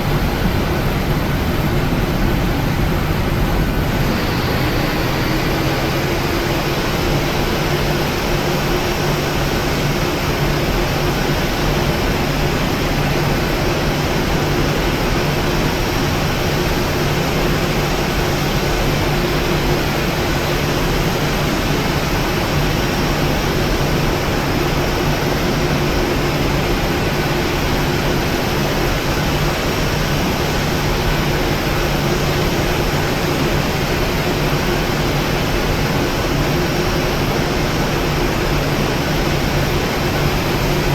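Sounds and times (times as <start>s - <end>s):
air-conditioning hiss: 0.0s - 40.9s
constant low hum: 0.0s - 40.9s
jet engines idling: 0.0s - 40.9s.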